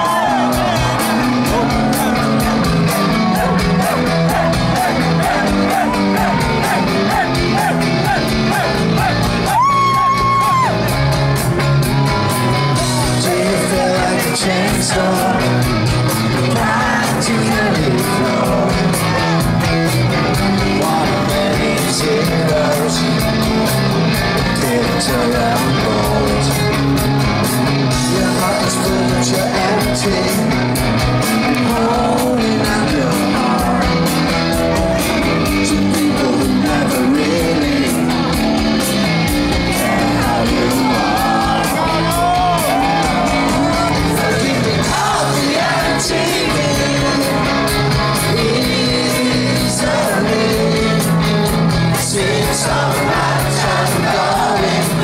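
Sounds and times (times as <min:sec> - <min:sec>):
person singing: 0:00.0 - 0:10.8, 0:12.2 - 0:19.5, 0:20.5 - 0:23.3, 0:24.4 - 0:27.0, 0:27.9 - 0:30.8, 0:31.4 - 0:34.4, 0:35.4 - 0:38.4, 0:39.5 - 0:55.0
crowd yelling: 0:00.0 - 0:55.0
rock band playing live: 0:00.0 - 0:55.0.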